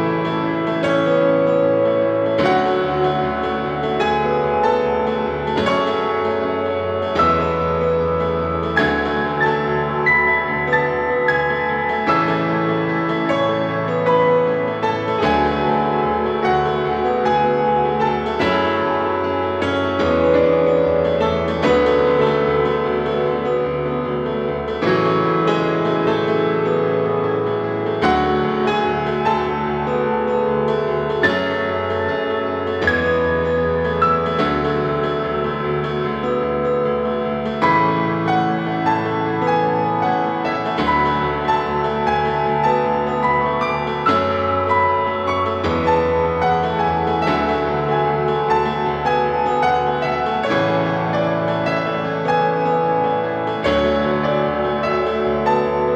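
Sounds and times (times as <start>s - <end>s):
slow solo piano: 0.0s - 55.9s.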